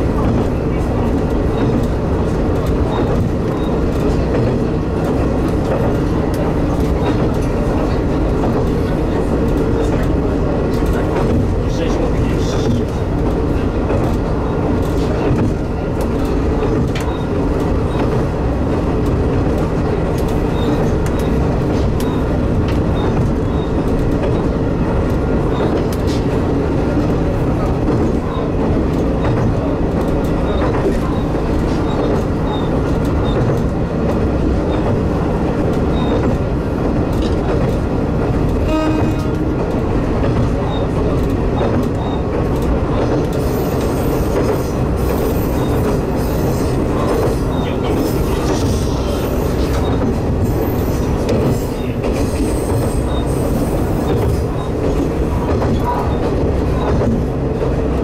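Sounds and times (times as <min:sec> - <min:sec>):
train engine and rolling noise: 0:00.0 - 0:58.0.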